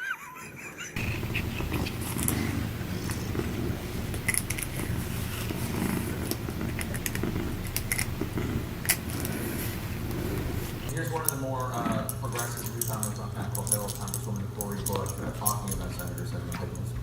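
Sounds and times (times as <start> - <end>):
cat purring: 1.0 - 17.0.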